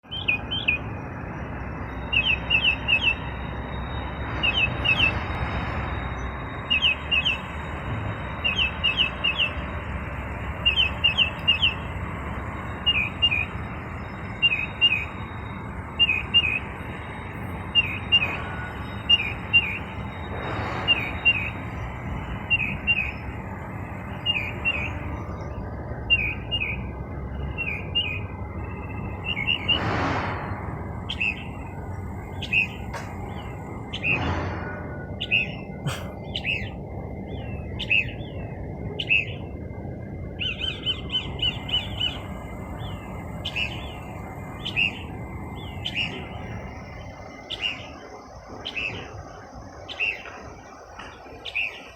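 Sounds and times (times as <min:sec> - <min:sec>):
songbird high chirps: 0:00.0 - 0:29.8, 0:31.0 - 0:34.2, 0:35.1 - 0:39.6, 0:40.3 - 0:51.9.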